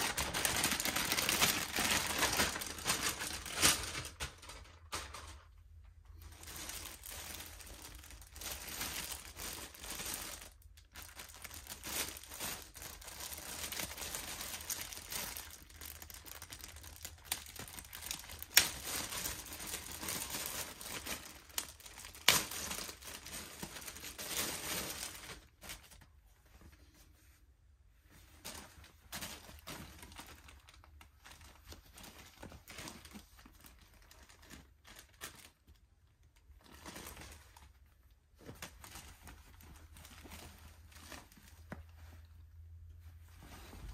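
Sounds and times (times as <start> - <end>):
plastic bag crinkling: 0.0 - 26.1, 28.4 - 42.2.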